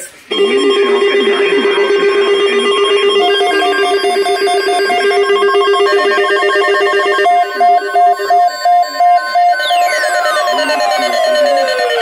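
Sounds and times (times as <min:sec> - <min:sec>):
higher beeping tone: 0:00.3 - 0:12.0
rapidly pulsing electronic alarm tone: 0:00.3 - 0:12.0.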